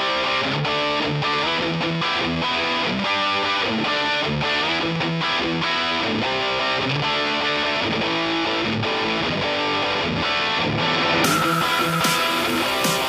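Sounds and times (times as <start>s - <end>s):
guitar-led music: 0.0s - 13.0s.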